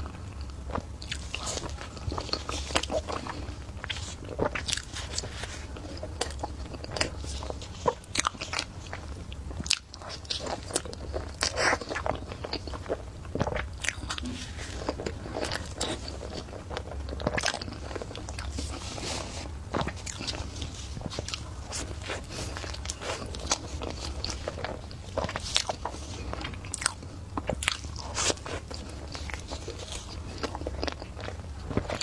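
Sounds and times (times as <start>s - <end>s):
crunching and chewing: 0.0s - 32.0s
low steady hum: 0.0s - 32.0s.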